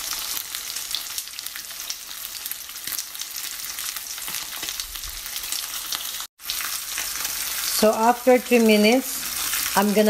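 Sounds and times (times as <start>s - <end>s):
steak sizzling in a frying pan: 0.0s - 10.0s.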